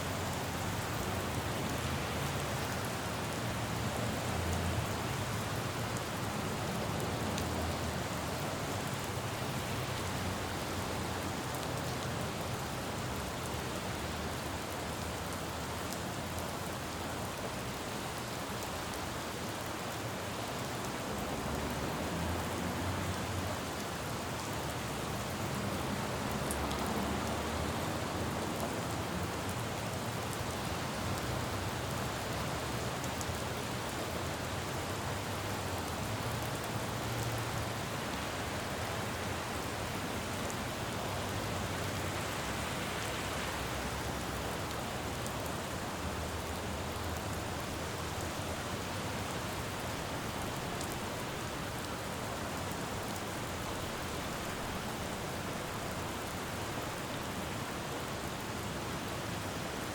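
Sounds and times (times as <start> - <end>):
rain falling on street: 0.0 - 59.9.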